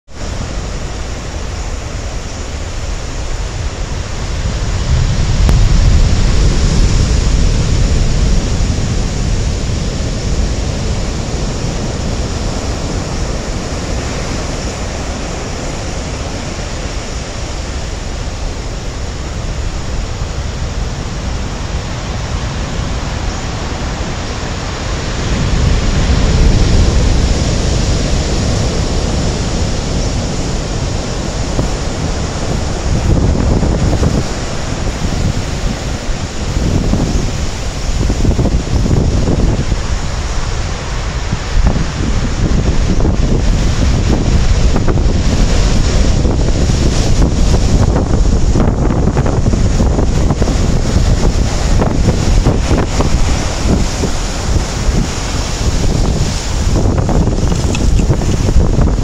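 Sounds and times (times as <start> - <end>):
big waves breaking: 0.1 - 59.0
heavy surf rumbling: 0.1 - 59.0
wind buffeting microphone: 0.1 - 59.0.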